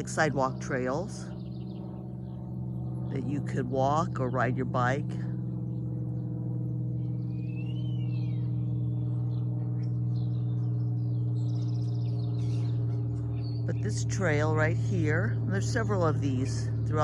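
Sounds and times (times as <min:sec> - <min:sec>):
bird chirps and trills: 0:00.0 - 0:17.0
steady low hum: 0:00.0 - 0:17.0.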